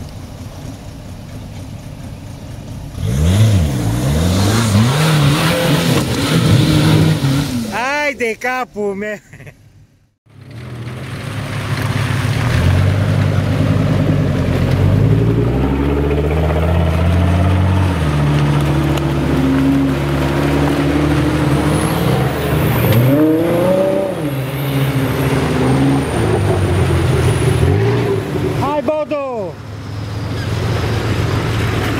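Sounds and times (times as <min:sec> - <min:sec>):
off-road vehicle engines revving: 0:02.7 - 0:08.2, 0:10.3 - 0:31.9.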